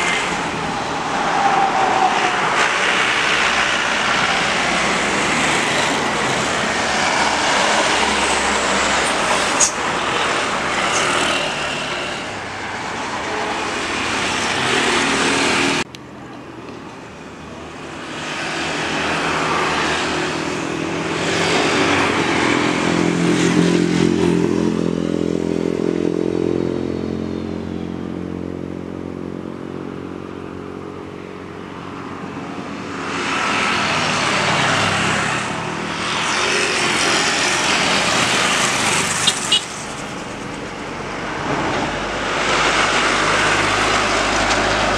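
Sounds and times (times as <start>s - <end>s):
jet engines during landing: 0.0s - 25.2s, 31.7s - 44.9s.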